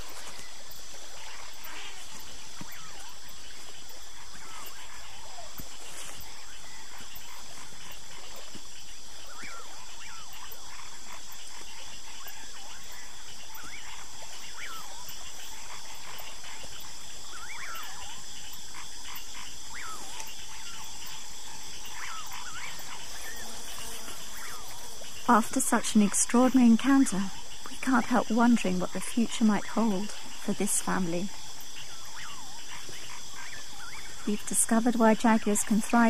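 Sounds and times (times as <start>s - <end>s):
high-pitched insect chorus: 0.0s - 36.0s.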